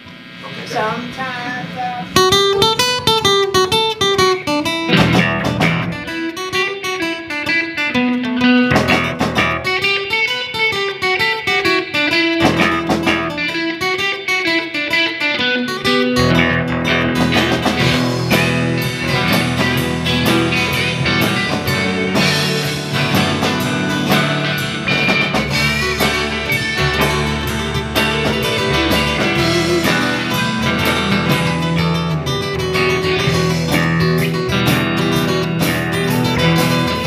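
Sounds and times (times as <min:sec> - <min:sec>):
electric and acoustic guitars: 0:00.0 - 0:37.0
drum kit beat: 0:01.8 - 0:37.0
live rock band playing: 0:02.1 - 0:37.0.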